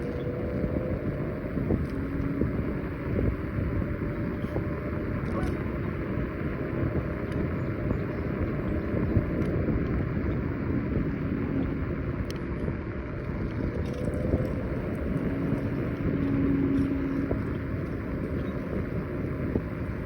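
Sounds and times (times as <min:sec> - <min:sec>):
faint whine: 0:00.0 - 0:20.0
road noise: 0:00.0 - 0:20.0
wind rushing on microphone: 0:00.0 - 0:20.0.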